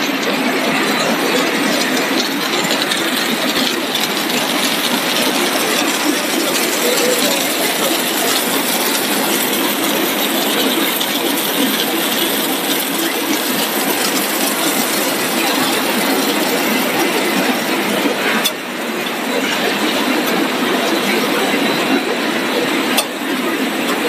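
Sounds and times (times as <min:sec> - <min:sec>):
production line machinery din: 0:00.0 - 0:24.0.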